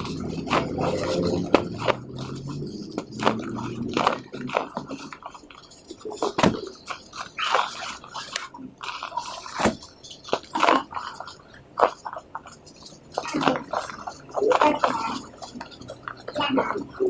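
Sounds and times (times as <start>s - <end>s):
cement pot crumbling and crunching: 0.0s - 17.0s.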